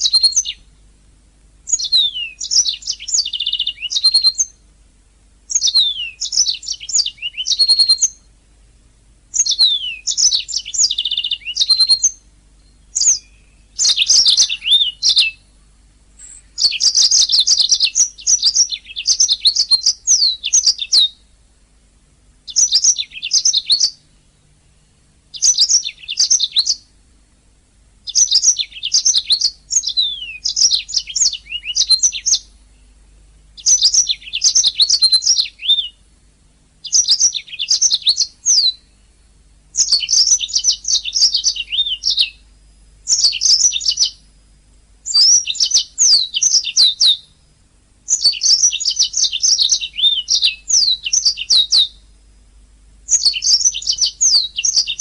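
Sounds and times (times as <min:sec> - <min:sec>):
canary singing trills: 0:00.0 - 0:04.7, 0:05.5 - 0:08.4, 0:09.3 - 0:21.4, 0:22.3 - 0:27.2, 0:28.0 - 0:36.2, 0:36.8 - 0:52.2, 0:53.0 - 0:55.0.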